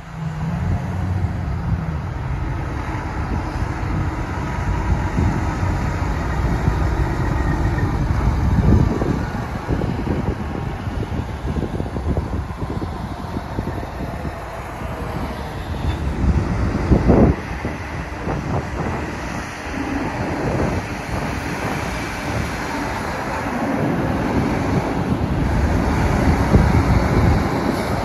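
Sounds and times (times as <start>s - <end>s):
diesel truck engine rumbling: 0.0s - 28.0s
wind buffeting microphone: 0.0s - 28.0s.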